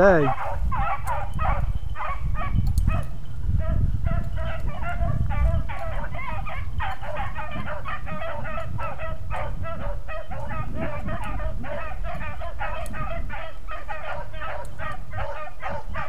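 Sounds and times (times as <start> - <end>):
dogs baying: 0.2 - 16.0.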